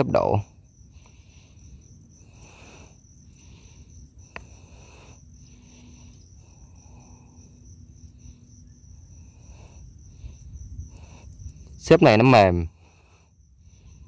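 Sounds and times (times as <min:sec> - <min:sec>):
insect trill: 0:00.0 - 0:14.0
lower insect chirping: 0:00.0 - 0:14.0.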